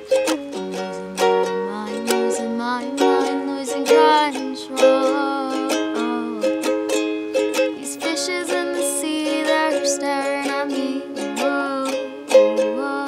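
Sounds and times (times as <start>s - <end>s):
ukulele strumming: 0.0s - 13.0s
woman singing: 0.1s - 6.8s, 7.6s - 13.0s.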